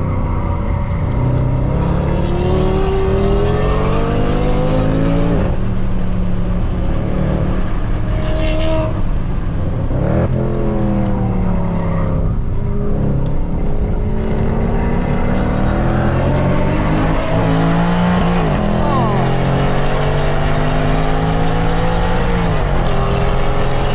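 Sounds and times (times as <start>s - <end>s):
racing car engine revving: 0.0s - 5.9s, 6.6s - 23.9s.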